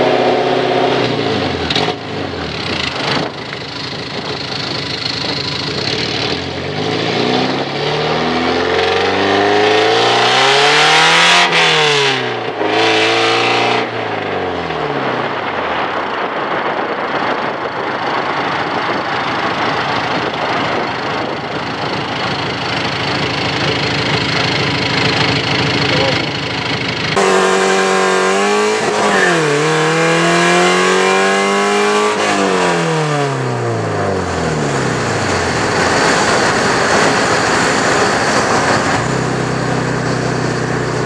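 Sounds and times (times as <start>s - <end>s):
car engine accelerating: 0.0s - 41.0s
road noise: 0.0s - 41.0s.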